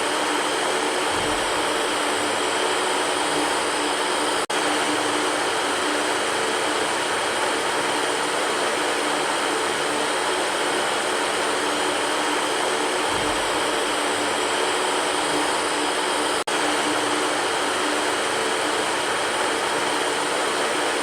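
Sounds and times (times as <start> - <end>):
electric fan air rush: 0.0 - 21.0
faint motor hum: 0.0 - 21.0.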